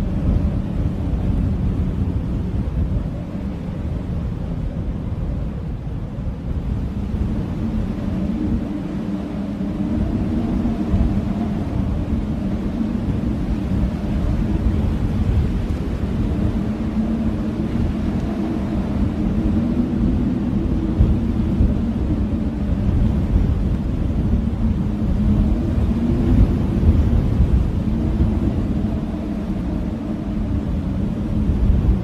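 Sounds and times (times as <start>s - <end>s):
blizzard wind howling: 0.0s - 32.0s.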